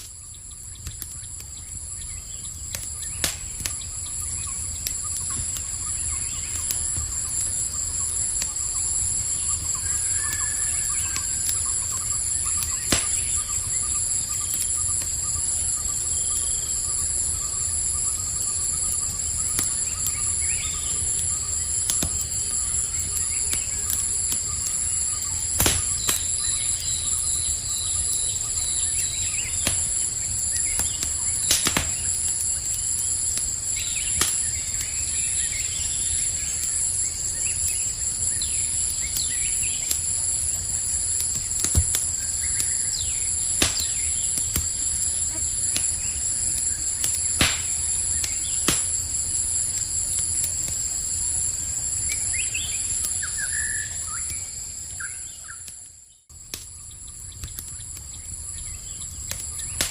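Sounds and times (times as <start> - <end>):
campfire crackling and popping: 0.0 - 59.9
night insects chirping: 0.0 - 59.9.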